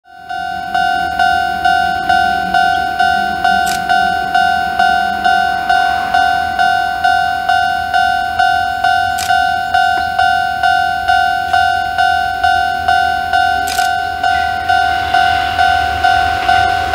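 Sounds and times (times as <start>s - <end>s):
level crossing two-tone bell: 0.1s - 16.7s.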